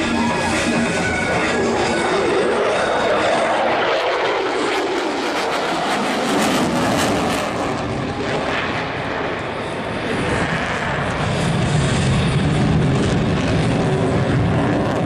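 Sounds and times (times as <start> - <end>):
airplane engine running at power: 0.0 - 15.0.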